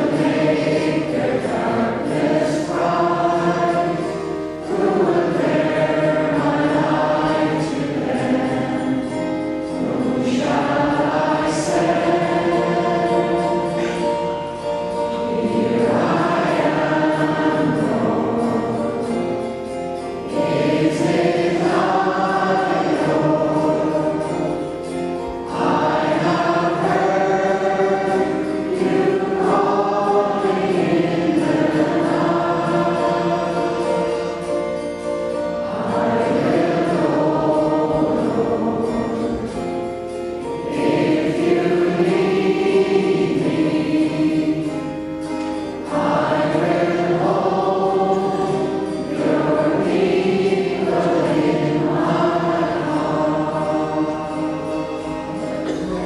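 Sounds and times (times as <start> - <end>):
man singing a hymn: 0.0 - 19.4, 20.3 - 34.8, 35.4 - 39.8, 45.9 - 56.0
acoustic guitar: 0.0 - 56.0.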